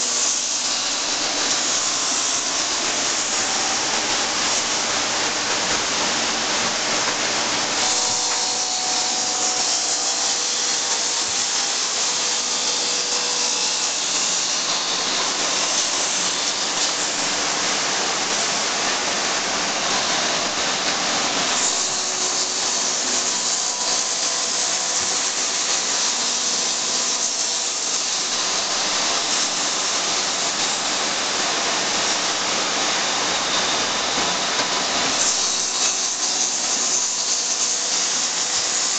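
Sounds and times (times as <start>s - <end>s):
lathe cutters shaving wood: 0.0s - 38.9s.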